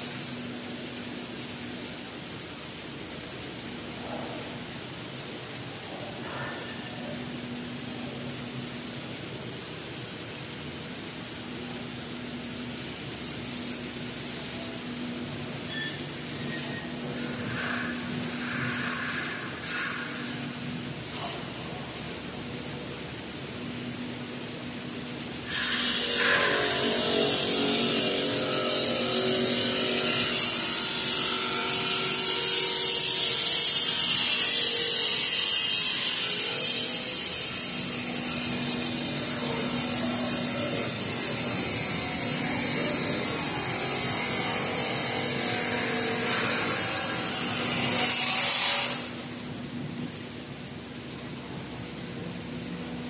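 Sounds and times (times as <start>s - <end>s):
loud high hiss: 0.0s - 53.0s
machinery humming: 0.0s - 53.0s.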